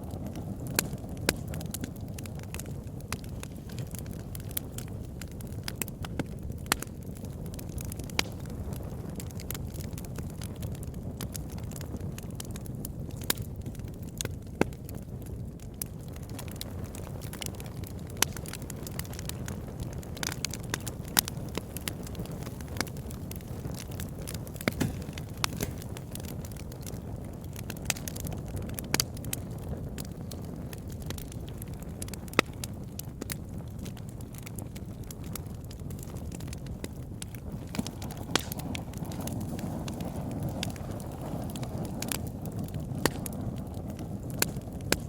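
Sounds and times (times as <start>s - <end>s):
fire crackling and popping: 0.0s - 45.0s
low rumble of flames: 0.0s - 45.0s.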